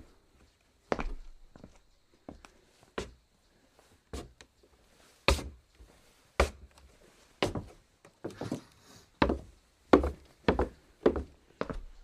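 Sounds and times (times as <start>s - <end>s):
scuffing steps: 0.0s - 3.2s, 3.9s - 12.0s
footsteps on wood: 0.9s - 3.2s, 4.1s - 12.0s.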